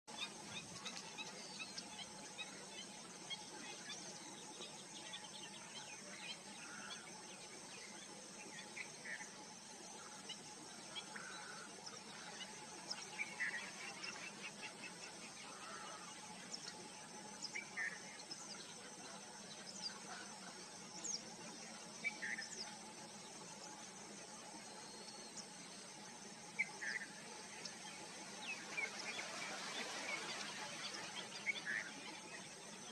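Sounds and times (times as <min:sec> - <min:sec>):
faint outdoor hiss: 0:00.1 - 0:32.9
wild birds chirping: 0:00.1 - 0:32.9.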